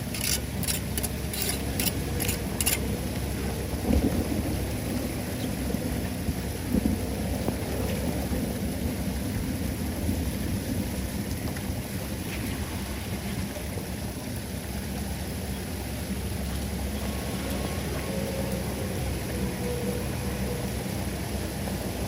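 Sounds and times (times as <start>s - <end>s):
water rushing down a drain: 0.4s - 22.0s.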